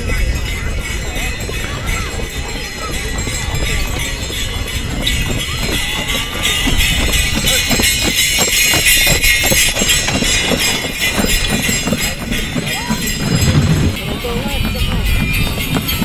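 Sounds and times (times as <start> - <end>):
sleigh bells jingling: 0.0 - 16.0
hooves thudding on packed snow: 0.1 - 16.0.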